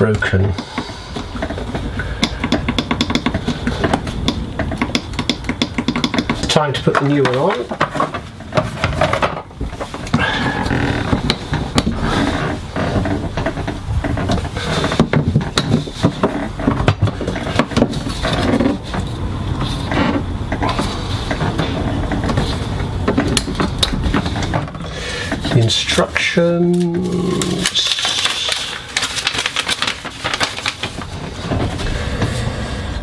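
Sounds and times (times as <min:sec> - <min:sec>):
hard plastic clicking and rattling: 0:00.4 - 0:10.2, 0:11.0 - 0:31.8
packaging rustling: 0:05.9 - 0:32.4.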